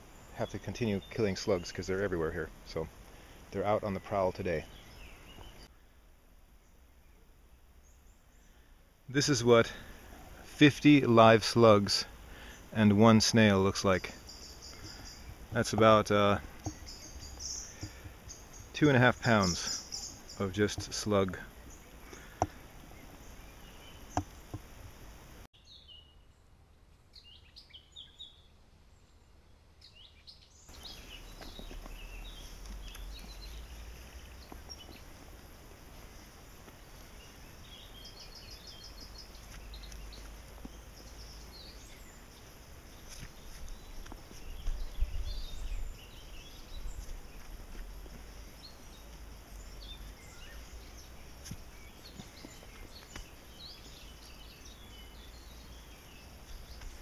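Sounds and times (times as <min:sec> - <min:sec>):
birds chirping: 0:00.0 - 0:26.4, 0:27.0 - 0:57.0.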